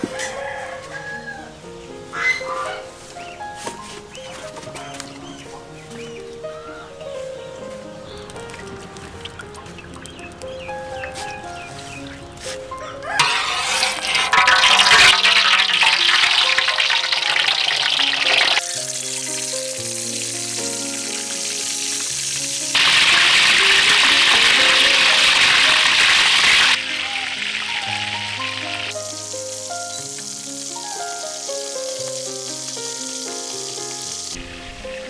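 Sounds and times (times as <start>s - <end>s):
background music: 0.0s - 35.0s
fish deep-frying in hot oil: 0.2s - 1.4s, 8.1s - 35.0s.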